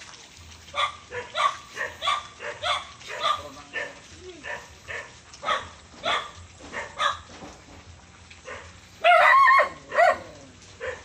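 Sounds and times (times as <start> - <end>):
dog barking: 0.7 - 7.3, 8.4 - 11.0.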